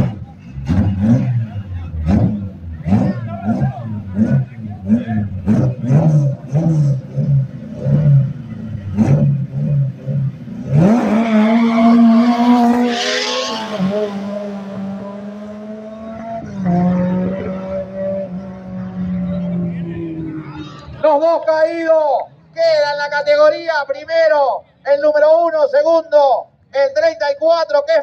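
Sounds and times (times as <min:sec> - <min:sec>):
race car engines revving: 0:00.0 - 0:23.5.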